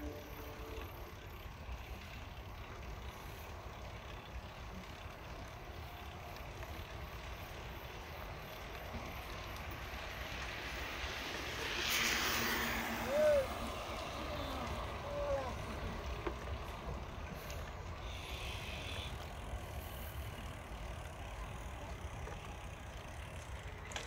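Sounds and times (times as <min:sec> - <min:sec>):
bicycle tyres rolling: 0:00.0 - 0:24.0
electric scooter passing: 0:00.0 - 0:24.0.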